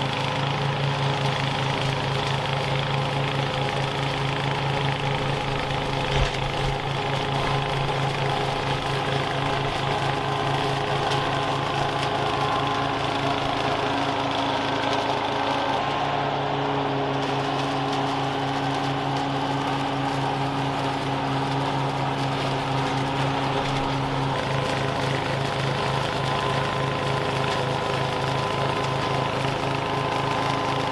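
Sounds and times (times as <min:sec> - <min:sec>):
lawn mower engine running: 0:00.0 - 0:30.9
mower cutting dry leaves: 0:00.0 - 0:30.9.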